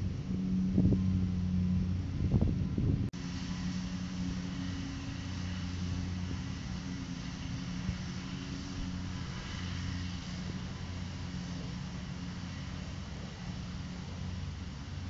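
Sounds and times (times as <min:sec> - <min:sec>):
engine drone: 0:00.0 - 0:15.0
outdoor background hiss: 0:00.0 - 0:15.0.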